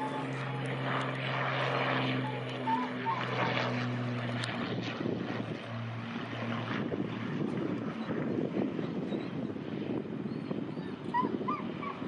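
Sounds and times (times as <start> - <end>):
aircraft propeller engines droning: 0.0 - 12.0.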